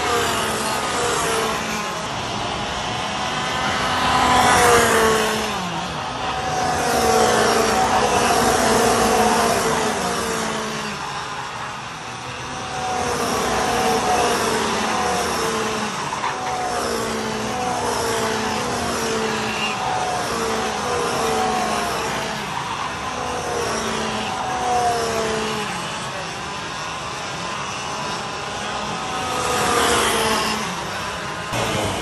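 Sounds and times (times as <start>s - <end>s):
kart engines revving: 0.0s - 32.0s.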